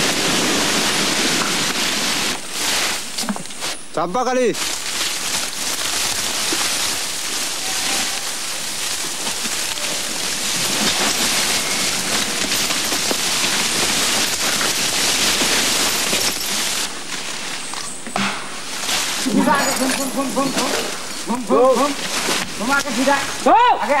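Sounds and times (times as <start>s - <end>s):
dry brush and leaves rustling: 0.0s - 24.0s.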